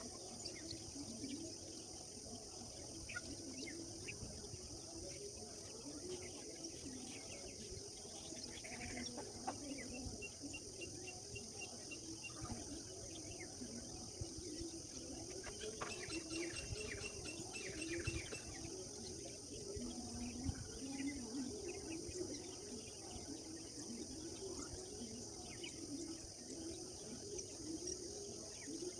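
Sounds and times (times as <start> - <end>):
birds chirping and twittering: 0.0 - 28.9.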